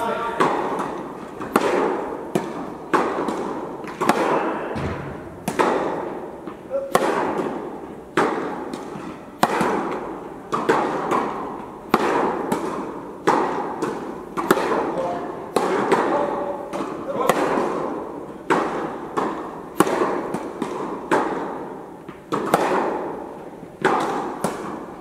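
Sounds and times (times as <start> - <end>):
tennis balls bouncing on court: 0.0 - 25.0
tennis balls struck by rackets: 0.0 - 25.0.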